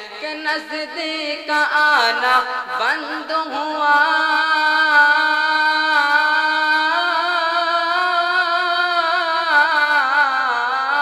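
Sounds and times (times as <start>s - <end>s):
young male voice singing: 0.0s - 11.0s.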